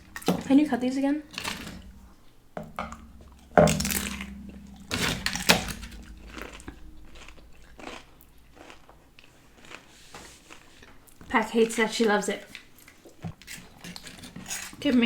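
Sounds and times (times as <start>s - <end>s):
chewing crunches: 2.9s - 15.0s.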